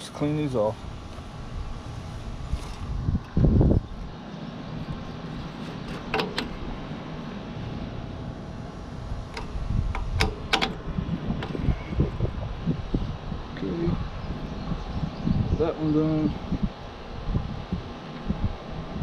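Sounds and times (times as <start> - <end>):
low handling rumble: 0.0 - 19.0.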